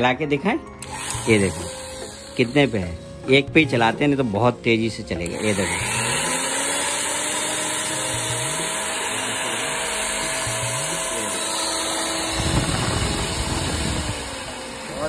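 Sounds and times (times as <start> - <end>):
electric mixer motor whine: 0.8 - 15.0.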